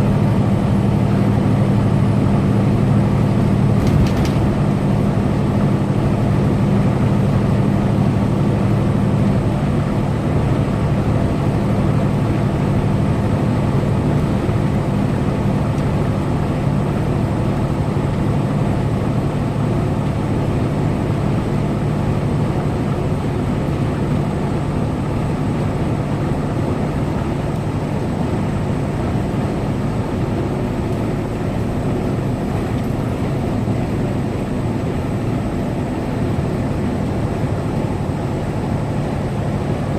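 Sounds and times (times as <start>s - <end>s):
road noise: 0.0s - 39.9s
truck diesel engine running: 0.0s - 39.9s.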